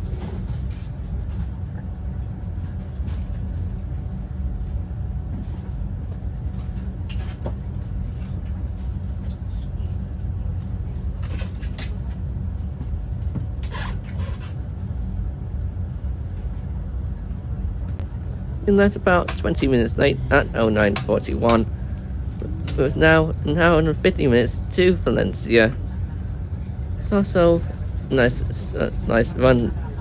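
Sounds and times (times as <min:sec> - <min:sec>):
train rumbling in motion: 0:00.0 - 0:30.0.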